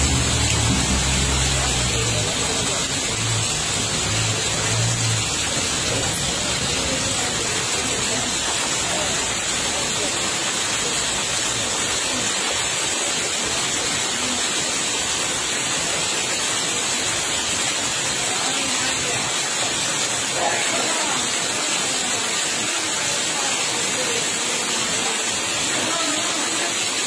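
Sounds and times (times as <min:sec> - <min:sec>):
fast-flowing water rushing: 0:00.0 - 0:27.0.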